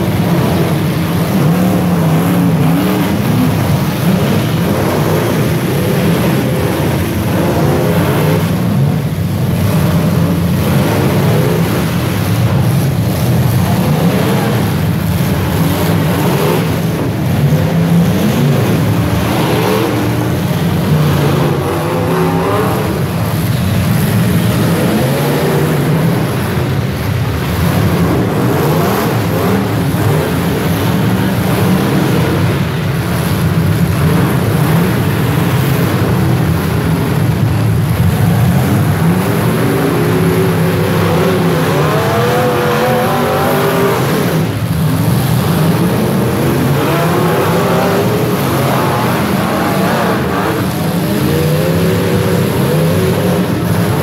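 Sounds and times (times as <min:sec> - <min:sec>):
car engines revving: 0:00.0 - 0:54.0
cars ramming each other: 0:00.0 - 0:54.0.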